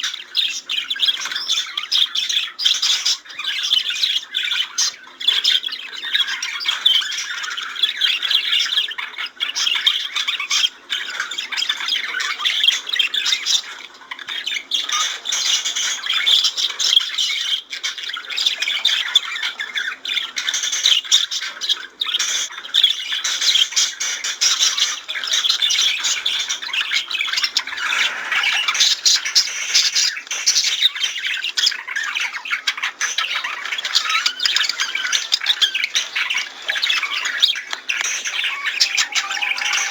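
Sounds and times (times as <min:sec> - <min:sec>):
budgerigars warbling and chirping: 0:00.0 - 0:39.9.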